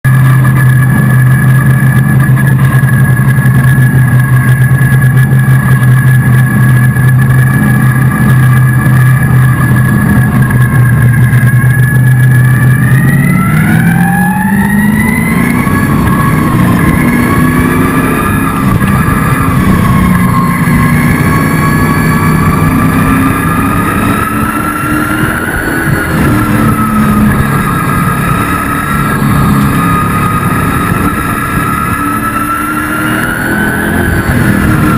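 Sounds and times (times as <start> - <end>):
racing truck engine revving: 0.0 - 34.9.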